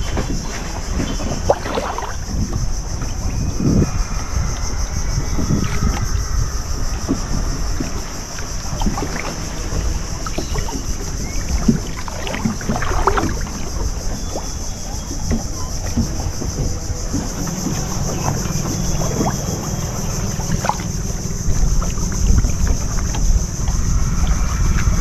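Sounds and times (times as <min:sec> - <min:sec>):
outboard engine running: 0:00.0 - 0:25.0
water splashing against hull: 0:00.0 - 0:25.0
wind buffeting microphone: 0:00.0 - 0:25.0.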